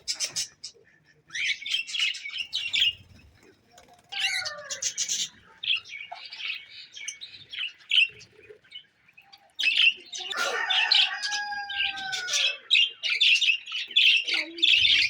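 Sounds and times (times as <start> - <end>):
pet birds chirping: 0.0 - 15.0.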